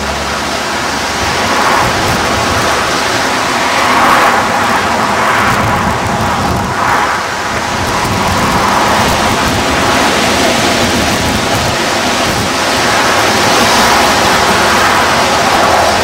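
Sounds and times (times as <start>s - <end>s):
sea roar: 0.0s - 16.0s.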